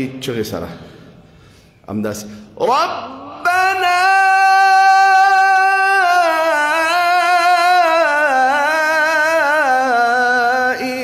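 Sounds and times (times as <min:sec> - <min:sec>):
man chanting in high voice: 0:01.9 - 0:11.0.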